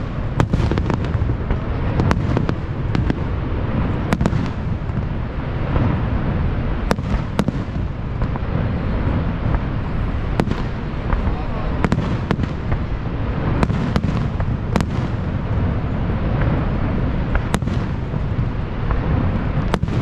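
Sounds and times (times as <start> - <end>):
fireworks cracking and banging: 0.0 - 20.0
steady low rumble: 0.0 - 20.0.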